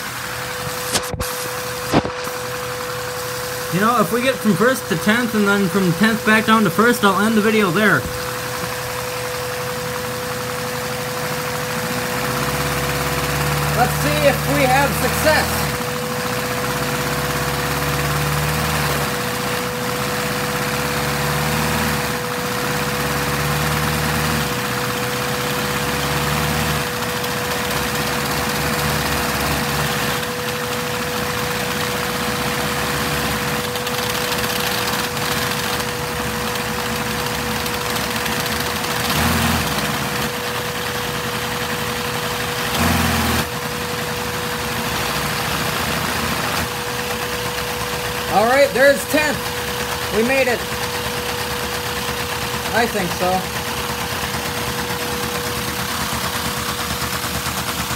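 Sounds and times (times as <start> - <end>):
steady whine: 0.0 - 18.0, 26.7 - 57.9
vacuum engine running: 0.0 - 57.9.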